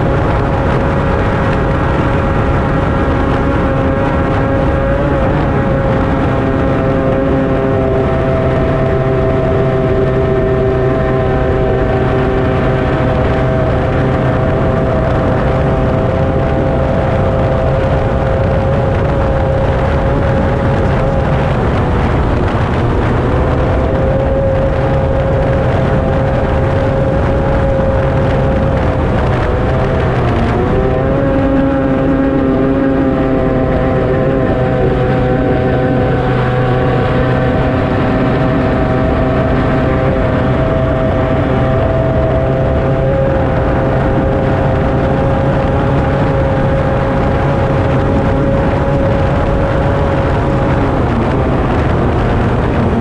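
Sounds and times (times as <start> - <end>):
racing outboard engine drone: 0.0 - 53.0
water and wind noise: 0.0 - 53.0.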